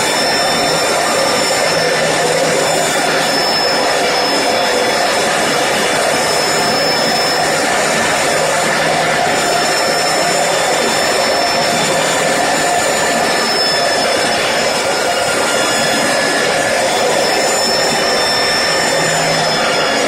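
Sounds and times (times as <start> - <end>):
core drill cutting concrete: 0.0 - 20.0.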